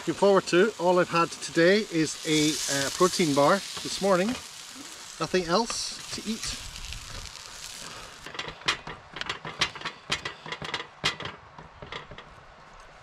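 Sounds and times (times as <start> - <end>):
sizzling on a gas grill: 0.0 - 10.8.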